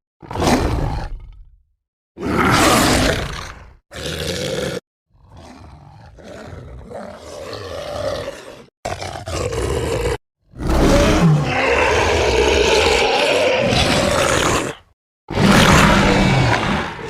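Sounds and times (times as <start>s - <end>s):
creature growling: 2.2s - 17.0s
creature roaring loudly: 2.2s - 17.0s.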